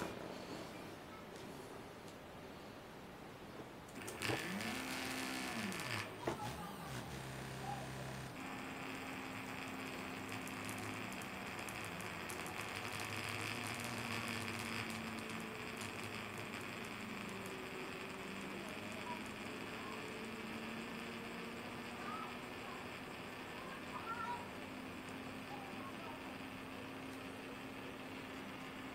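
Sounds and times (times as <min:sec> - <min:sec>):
stepper motors humming: 0:03.8 - 0:28.9.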